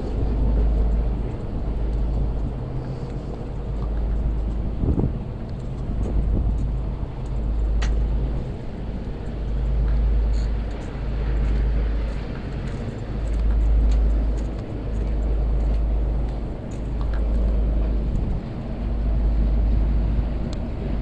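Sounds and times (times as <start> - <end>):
deep rumble: 0.0 - 21.0
low hum of machinery: 0.0 - 21.0.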